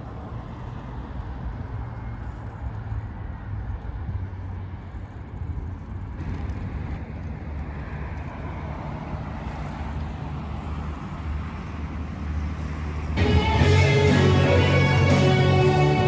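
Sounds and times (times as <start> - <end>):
motor traffic rumble: 0.0 - 16.0.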